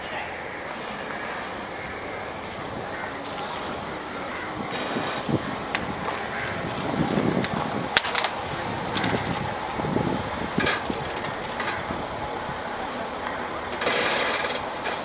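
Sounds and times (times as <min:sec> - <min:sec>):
outdoor noise: 0:00.0 - 0:15.0
car engine running slowly: 0:00.7 - 0:15.0.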